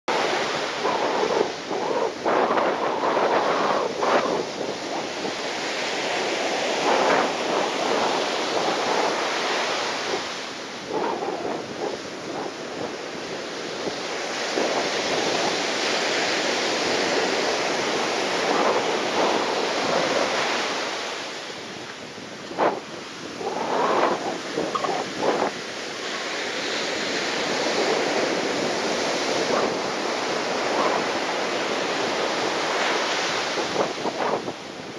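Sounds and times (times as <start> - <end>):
gusty wind buffeting microphone: 0.1 - 34.9
surf: 0.1 - 34.9.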